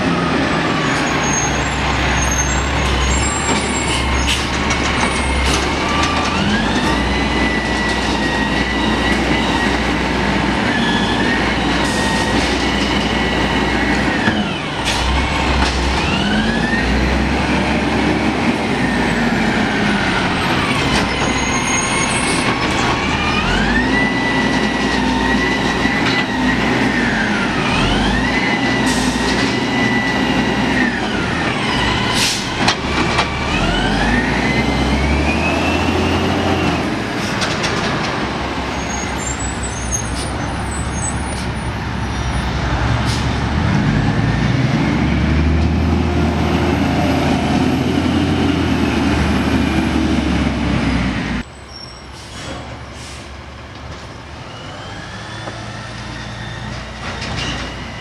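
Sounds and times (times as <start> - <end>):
garbage truck engine revving: 0.0 - 51.4.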